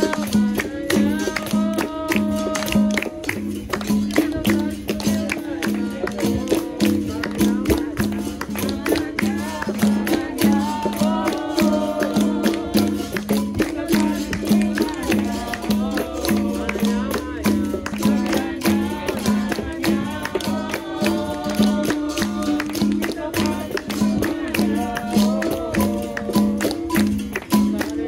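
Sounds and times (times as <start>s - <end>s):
berimbau rhythm: 0.0s - 28.0s
shaken rattle: 0.0s - 28.0s
voices singing: 0.0s - 28.0s.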